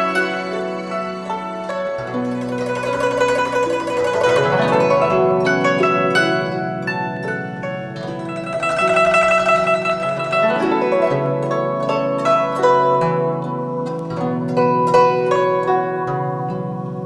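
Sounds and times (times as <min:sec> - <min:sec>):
plucked zither melody: 0:00.0 - 0:17.0.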